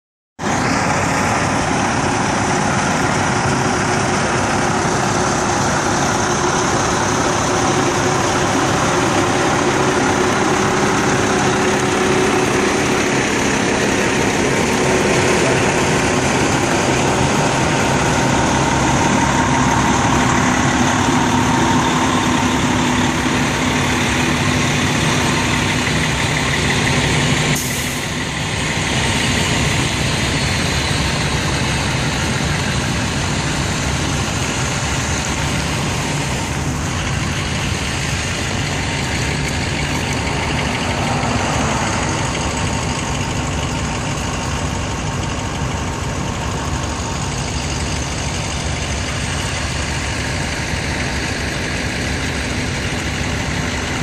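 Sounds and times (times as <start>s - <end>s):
fire truck engines idling: 0.4s - 54.0s.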